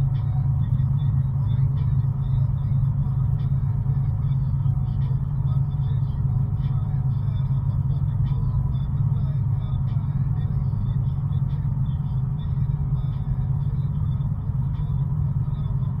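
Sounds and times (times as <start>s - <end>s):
truck engine and tyres rumbling: 0.0s - 16.0s.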